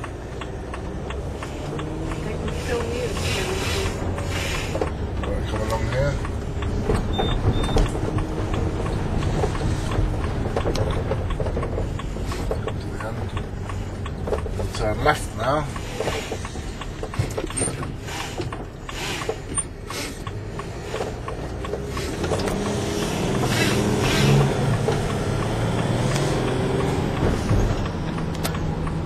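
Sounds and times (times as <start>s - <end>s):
van engine and road noise: 0.0s - 29.0s.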